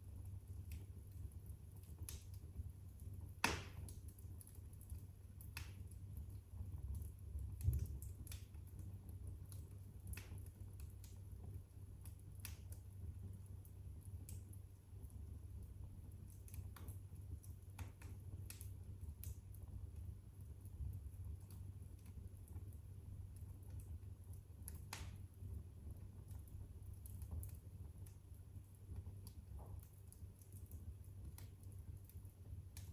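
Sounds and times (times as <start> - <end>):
low rumble of flames: 0.0 - 32.9
wood fire crackling and popping: 0.0 - 32.9.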